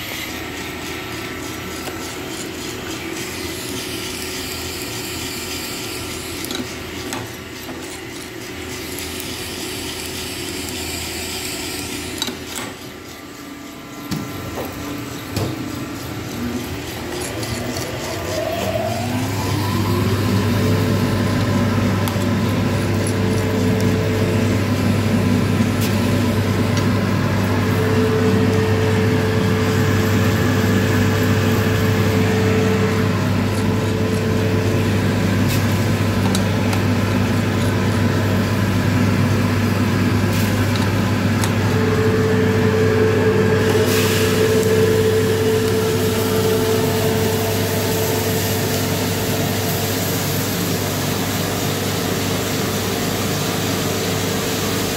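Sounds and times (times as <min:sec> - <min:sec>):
coffee roaster motor hum: 0:00.0 - 0:54.9.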